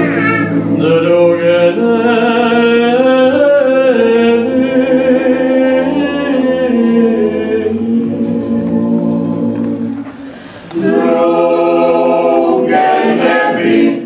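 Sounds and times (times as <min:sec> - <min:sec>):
unaccompanied group singing: 0:00.0 - 0:14.0.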